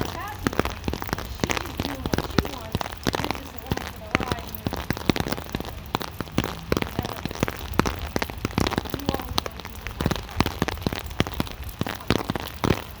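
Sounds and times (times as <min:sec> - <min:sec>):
rain falling: 0:00.0 - 0:13.0
raindrops tapping close by: 0:00.0 - 0:13.0.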